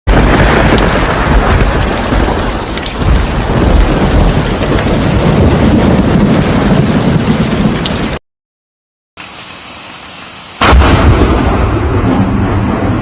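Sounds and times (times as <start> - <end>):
heavy rain: 0.1 - 8.2, 9.2 - 13.0
thunder rumbling: 0.1 - 8.2, 10.6 - 13.0.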